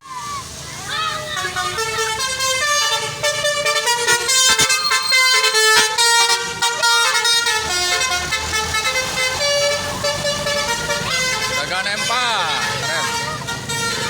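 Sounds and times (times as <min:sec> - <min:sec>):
multi-tone musical vehicle horn: 0:01.0 - 0:14.0.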